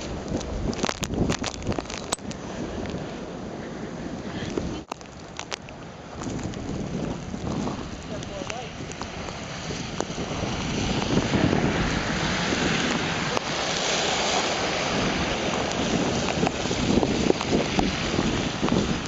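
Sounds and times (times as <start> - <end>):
blizzard wind buffeting microphone: 0.0 - 19.0.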